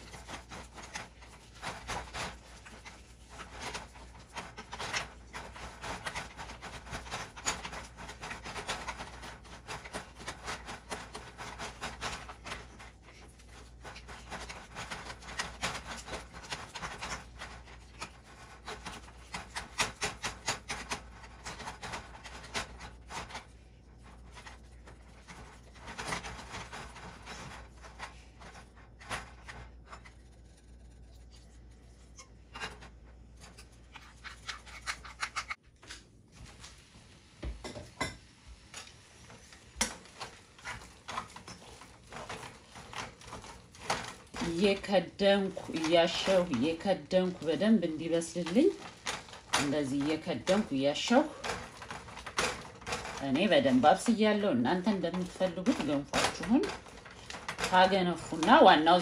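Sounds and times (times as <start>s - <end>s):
wooden spoon scraping saucepan: 0.0s - 35.6s, 37.6s - 59.0s.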